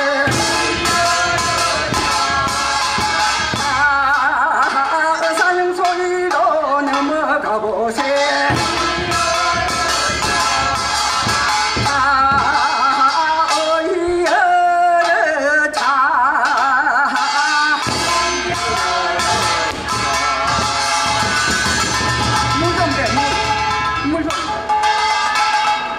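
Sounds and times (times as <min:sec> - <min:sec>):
person singing with vibrato: 0:00.0 - 0:24.8
drum beats: 0:00.0 - 0:25.9.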